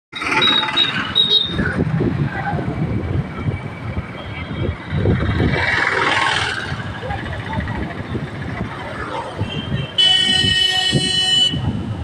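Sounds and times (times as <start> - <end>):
engine and road rumble: 0.1 - 12.0
gusty low wind noise: 1.4 - 12.0.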